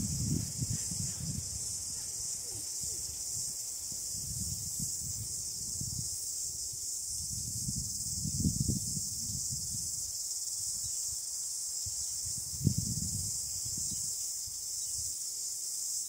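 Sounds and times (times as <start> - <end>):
high-pitched insect chirring: 0.0 - 16.0.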